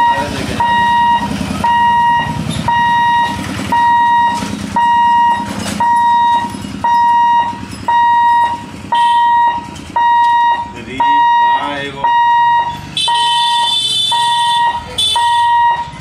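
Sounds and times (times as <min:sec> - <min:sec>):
warning hooter beeping: 0:00.0 - 0:16.0.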